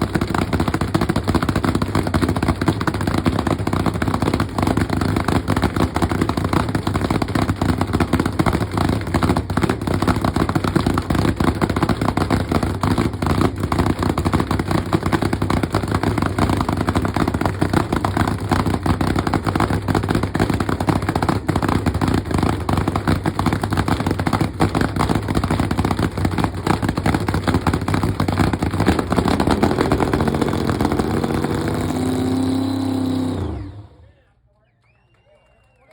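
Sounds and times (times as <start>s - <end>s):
rough engine with crackling exhaust: 0.0s - 34.2s.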